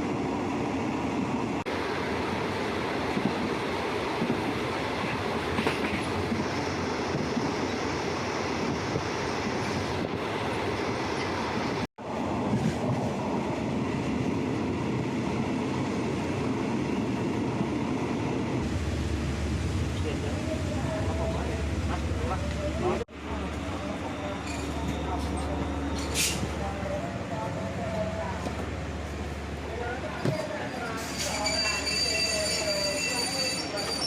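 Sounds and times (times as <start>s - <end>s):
train wheels rumbling and rattling: 3.0s - 10.1s, 12.4s - 34.0s.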